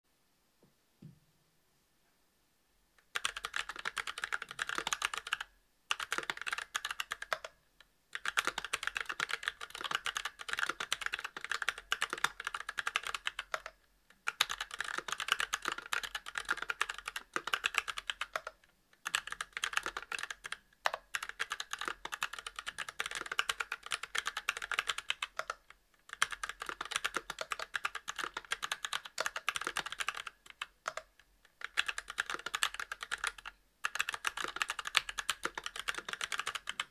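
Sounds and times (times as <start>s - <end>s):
mechanical keyboard typing: 3.1s - 36.9s.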